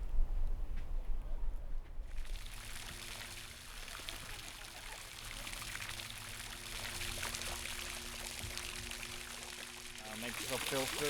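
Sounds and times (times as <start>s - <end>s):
faint steady hum: 1.9s - 11.0s
fountain water splashing: 2.1s - 11.0s.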